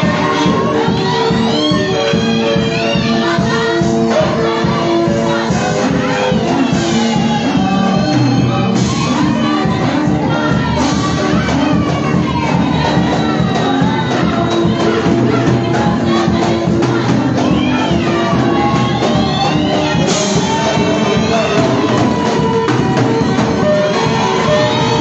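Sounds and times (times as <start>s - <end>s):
woman singing into microphone: 0.0s - 25.0s.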